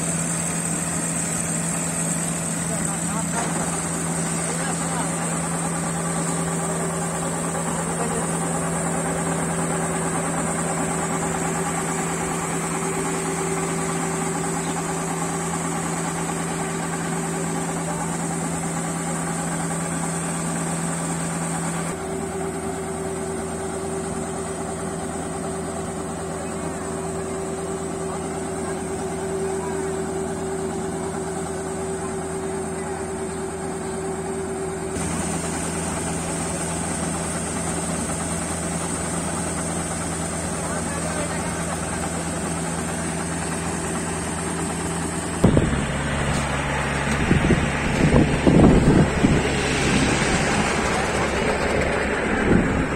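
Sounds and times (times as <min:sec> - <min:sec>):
harvester engine running: 0:00.0 - 0:52.9.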